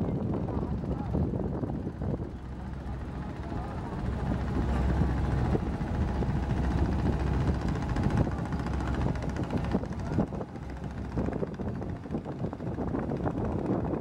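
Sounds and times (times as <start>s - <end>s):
boat engine drone: 0.0s - 14.0s
water rushing at bow: 0.0s - 14.0s.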